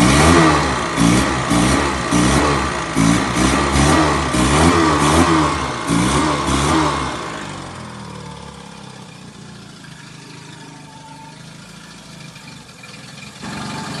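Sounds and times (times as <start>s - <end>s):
outboard engine revving: 0.0s - 14.0s.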